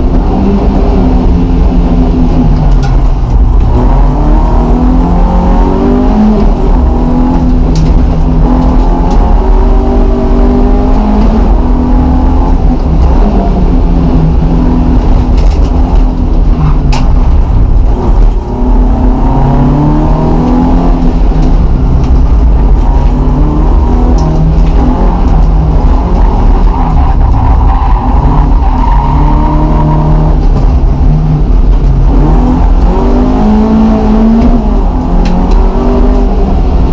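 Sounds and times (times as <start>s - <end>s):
car engine accelerating: 0.0s - 36.9s
road rumble: 0.0s - 36.9s.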